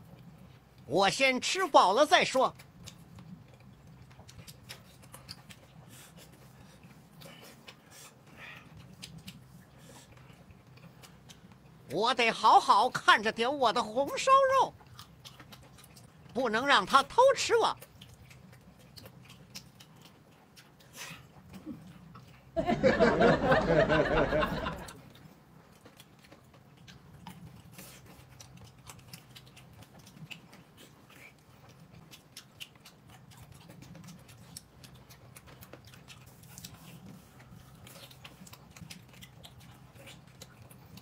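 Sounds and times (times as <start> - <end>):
person chewing and smacking: 0.0 - 0.9, 2.4 - 22.6, 24.8 - 41.0.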